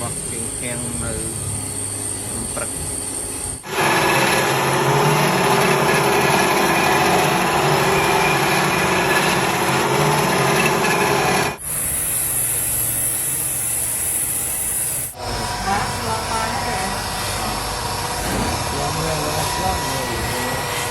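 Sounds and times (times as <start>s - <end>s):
machine running with high hiss: 0.0s - 20.9s
power tool running: 0.0s - 20.9s.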